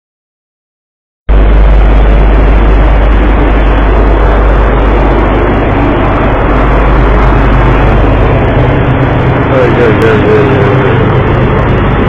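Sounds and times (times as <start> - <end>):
boat engine humming: 1.3 - 12.0.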